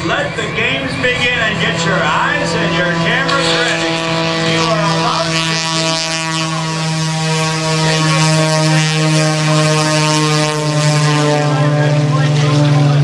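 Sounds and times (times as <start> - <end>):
propeller plane engine: 0.0 - 13.0.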